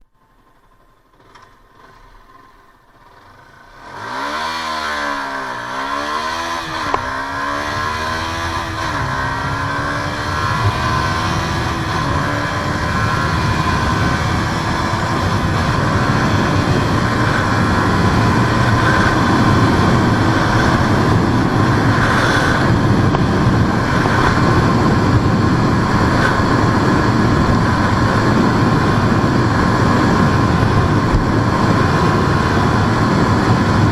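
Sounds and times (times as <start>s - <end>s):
motorcycle engine accelerating: 0.2s - 33.9s
wind rush: 4.0s - 33.9s.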